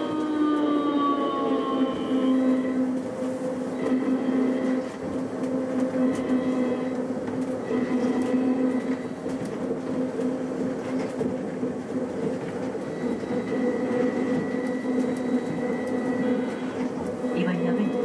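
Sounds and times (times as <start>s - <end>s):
train car rumble: 0.0s - 18.0s.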